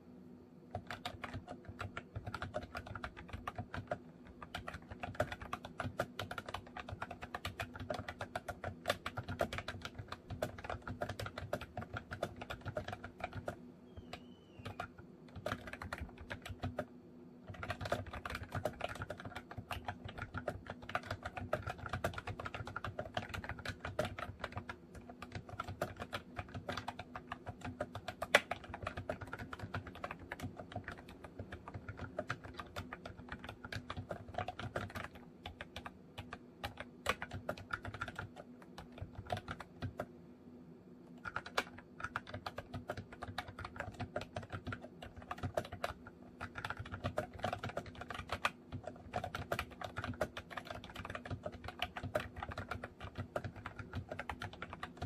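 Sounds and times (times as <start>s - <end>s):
fast typing on keyboard: 0.7s - 40.1s, 41.2s - 55.0s.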